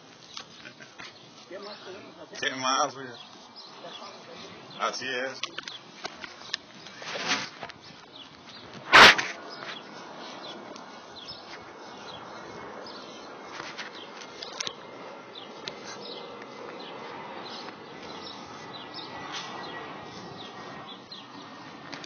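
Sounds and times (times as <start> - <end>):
birds chirping: 0.0 - 22.0
outdoor background hiss: 0.0 - 22.0.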